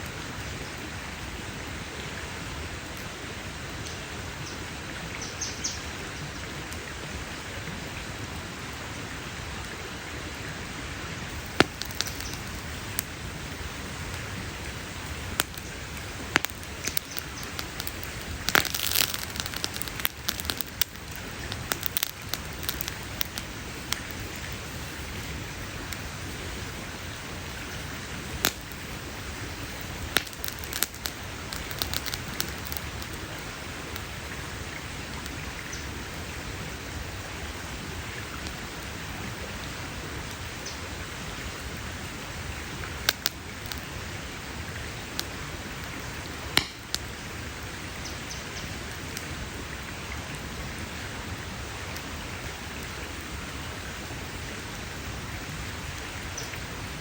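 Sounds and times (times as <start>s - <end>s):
wood campfire crackling: 0.0s - 57.0s.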